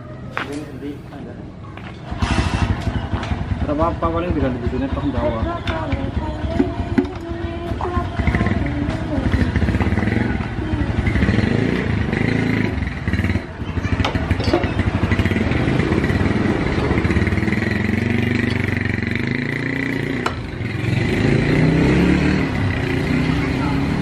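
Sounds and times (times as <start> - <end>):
two-stroke motorcycle engine running: 2.2 - 24.0.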